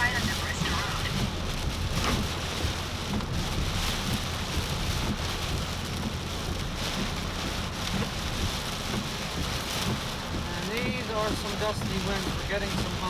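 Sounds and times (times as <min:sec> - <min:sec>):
heavy rain drumming on a car: 0:00.0 - 0:13.0
low road rumble: 0:00.0 - 0:13.0.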